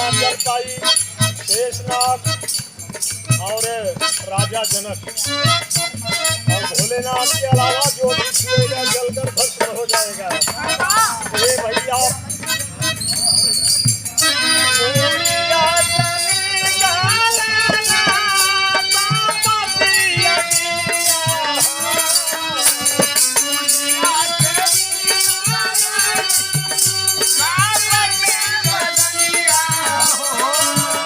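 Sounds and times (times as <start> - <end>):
jingling rattle percussion: 0.0 - 31.0.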